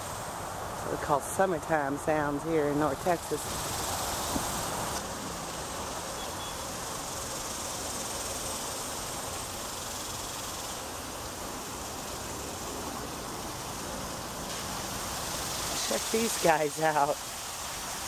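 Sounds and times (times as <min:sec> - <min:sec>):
insects buzzing: 0:03.2 - 0:18.0.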